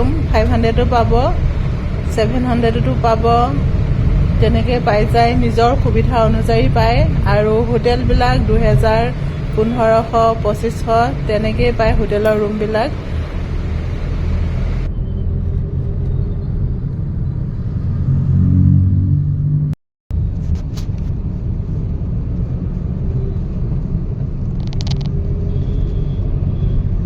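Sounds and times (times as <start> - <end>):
car engine rumble: 0.0 - 27.0
road noise: 0.0 - 27.0.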